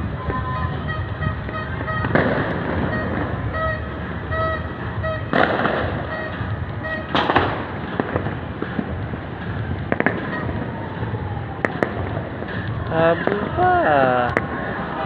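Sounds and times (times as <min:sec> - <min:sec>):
fireworks bangs and cracks: 0:00.0 - 0:15.0
low city rumble: 0:00.0 - 0:15.0.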